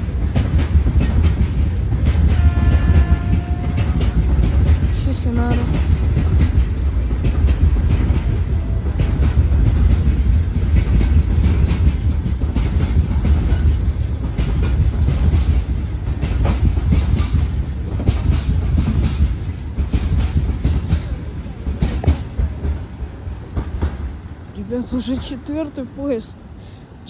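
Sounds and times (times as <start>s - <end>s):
wheels clacking over rail joints: 0.0s - 26.0s
freight train rumbling: 0.0s - 27.0s.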